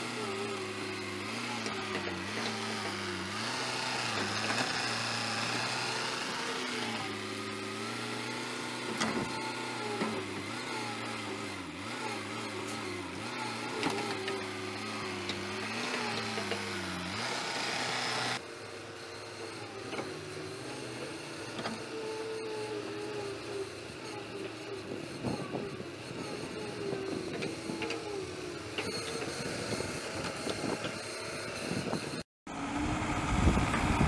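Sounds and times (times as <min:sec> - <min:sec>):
excavator engine under load: 0:00.0 - 0:34.0.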